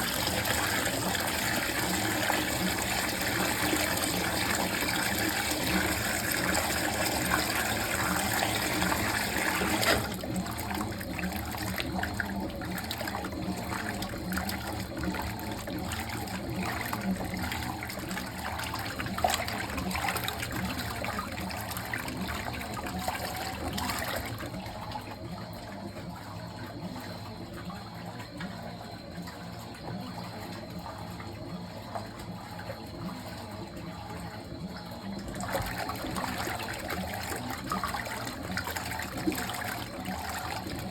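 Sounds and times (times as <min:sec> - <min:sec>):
water gushing into washing machine: 0:00.0 - 0:40.9.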